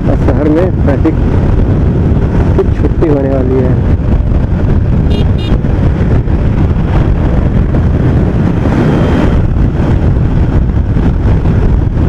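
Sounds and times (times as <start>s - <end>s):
wind noise on microphone: 0.0s - 12.0s
motorcycle engine: 1.1s - 12.0s.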